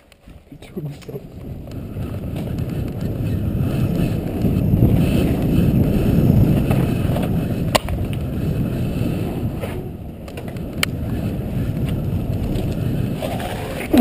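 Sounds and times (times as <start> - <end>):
bicycle rolling over pavement: 0.0 - 14.0
wind buffeting microphone: 0.1 - 14.0.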